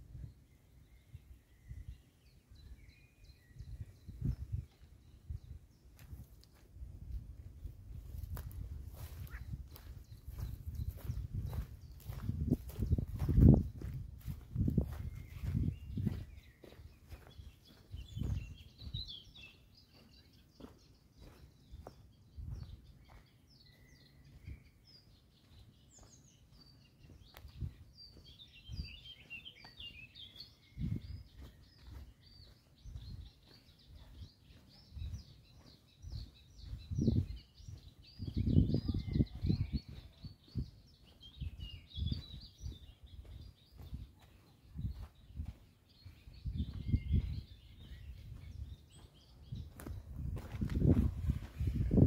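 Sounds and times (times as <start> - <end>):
songbirds chirping: 0.0 - 52.0
footsteps on forest path: 4.0 - 52.0.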